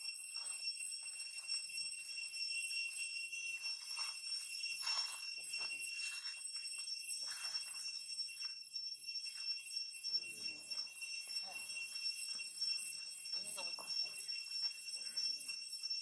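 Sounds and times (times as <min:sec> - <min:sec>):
high-pitched ringing drone: 0:00.0 - 0:16.0.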